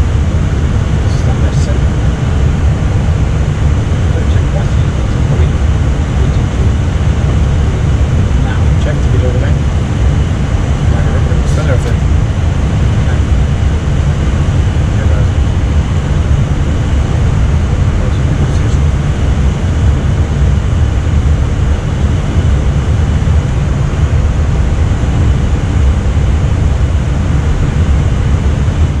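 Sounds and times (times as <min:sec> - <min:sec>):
airflow and engine rumble: 0:00.0 - 0:29.0.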